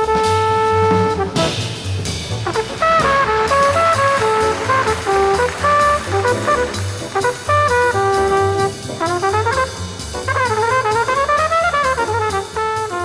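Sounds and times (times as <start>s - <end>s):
double bass: 0.0s - 13.0s
drums: 0.0s - 13.0s
piano: 0.0s - 13.0s
trombone soloing: 0.0s - 13.0s.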